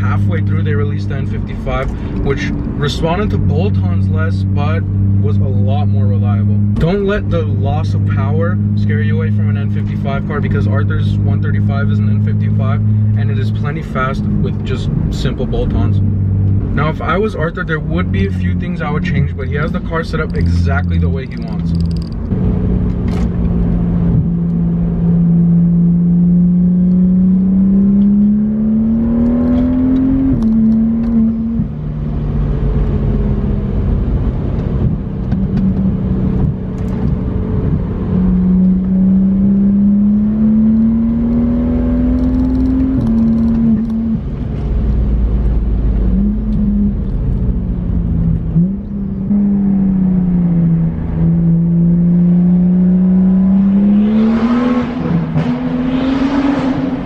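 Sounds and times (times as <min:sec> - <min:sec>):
car engine revving: 0:00.0 - 0:57.0
road noise: 0:00.0 - 0:57.0.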